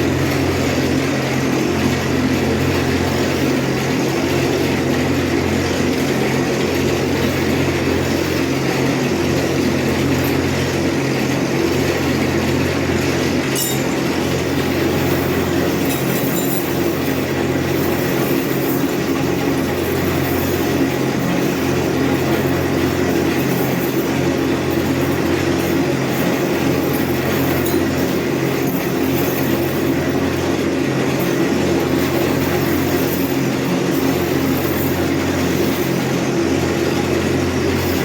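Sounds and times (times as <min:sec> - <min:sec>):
machine motor hum: 0:00.0 - 0:38.0.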